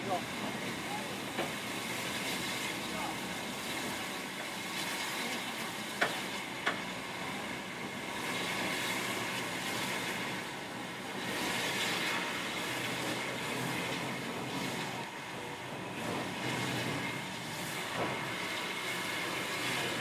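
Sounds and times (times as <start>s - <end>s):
steam locomotive hissing: 0.0s - 20.0s.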